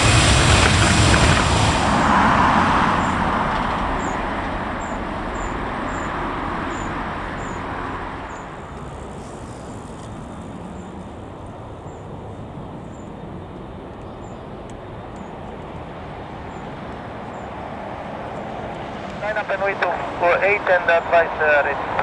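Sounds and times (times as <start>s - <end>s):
distant jet engine rumble: 0.0s - 22.0s.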